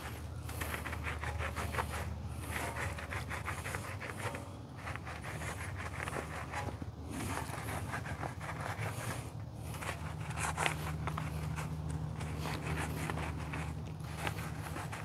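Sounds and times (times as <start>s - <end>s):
brush scrubbing soapy wheel: 0.0s - 15.0s
steady low hum: 0.0s - 15.0s.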